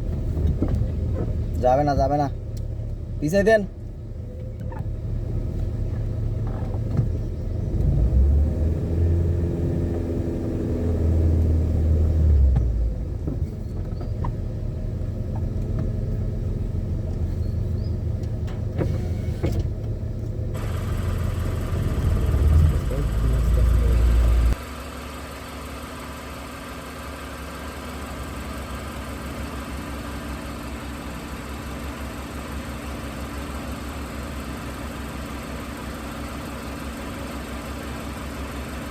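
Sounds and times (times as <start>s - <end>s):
car engine: 0.0s - 38.9s
road noise while driving: 0.0s - 38.9s.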